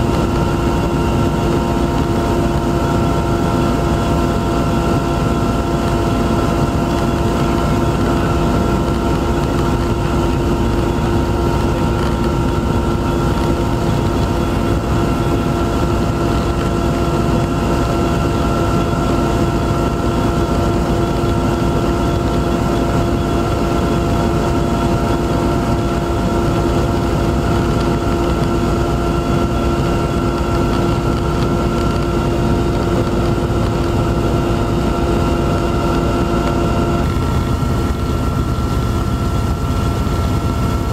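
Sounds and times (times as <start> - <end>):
aircraft engine drone: 0.0 - 40.9.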